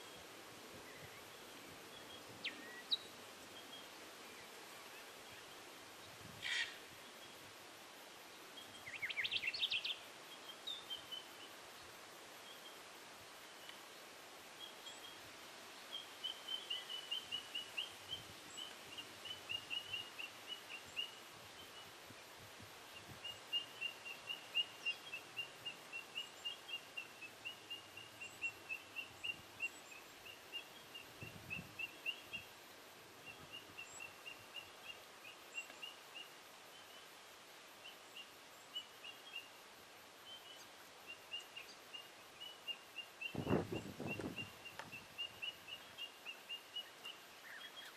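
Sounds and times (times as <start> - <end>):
small birds chirping: 0.0 - 7.5, 8.2 - 47.9
faint outdoor background noise: 0.0 - 47.9.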